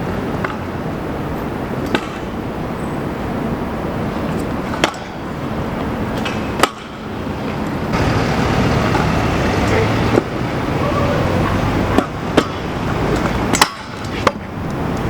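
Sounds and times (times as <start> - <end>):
wheels rolling on pavement: 0.0 - 15.0.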